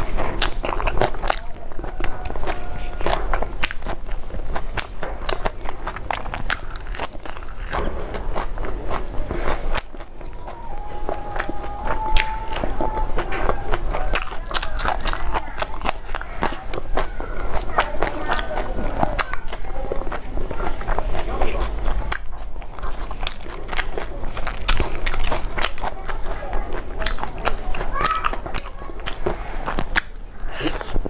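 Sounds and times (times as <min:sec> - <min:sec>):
person chewing food: 0:00.0 - 0:31.0
wet mouth clicks and smacks: 0:03.0 - 0:31.0.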